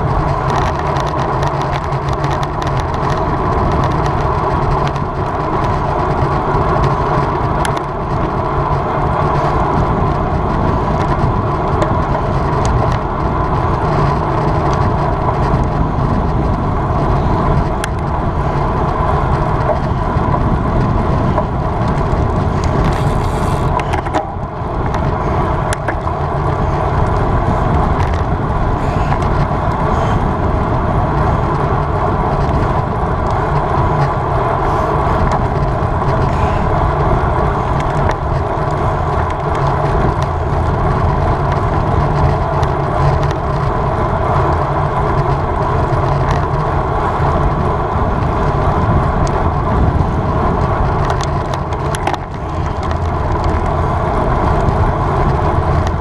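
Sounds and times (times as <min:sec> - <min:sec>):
bicycle road noise: 0:00.0 - 0:56.0
wind rush: 0:00.0 - 0:56.0.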